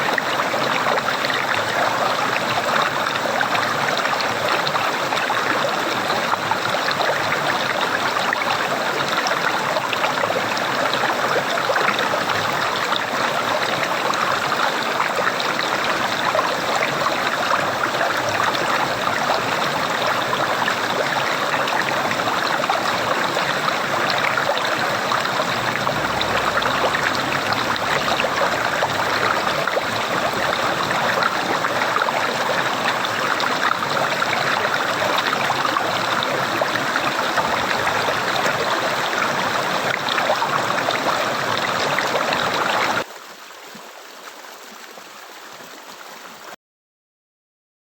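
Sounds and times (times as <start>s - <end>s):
running water gurgling: 0.0s - 46.6s.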